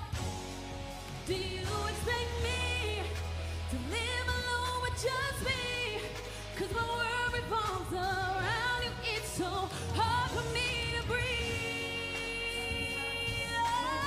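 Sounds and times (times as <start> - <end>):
pop backing track: 0.0 - 14.0
woman singing into microphone: 1.2 - 14.0.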